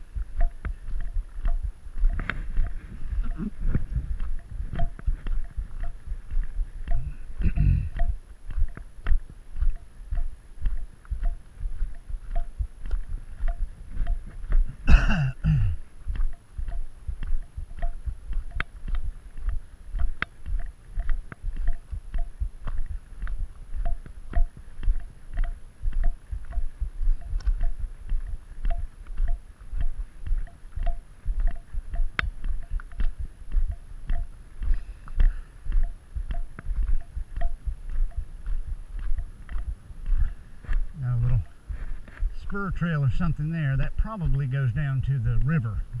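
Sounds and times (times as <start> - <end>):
footsteps crunching on gravel: 0.0 - 46.0.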